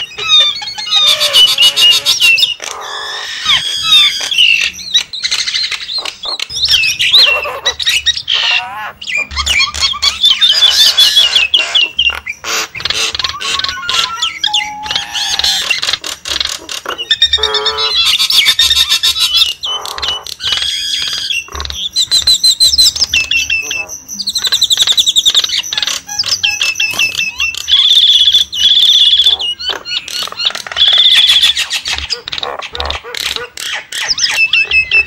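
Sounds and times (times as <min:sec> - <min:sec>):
birds whistling and chattering: 0:00.0 - 0:35.0.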